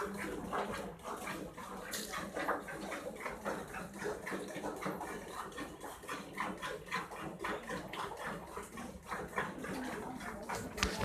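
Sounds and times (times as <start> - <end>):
milk squirting into a pail: 0.0 - 11.0.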